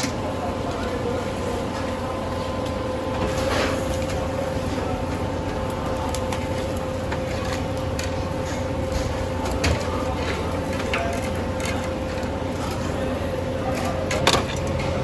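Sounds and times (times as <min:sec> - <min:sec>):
machine hum with whine: 0:00.0 - 0:15.0.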